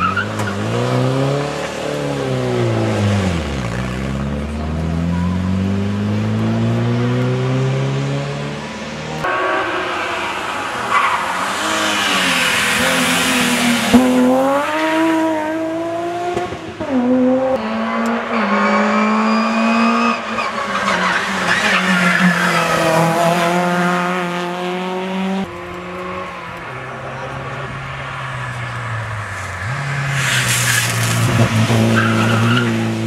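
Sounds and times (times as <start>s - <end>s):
rally cars accelerating hard: 0.0s - 33.0s.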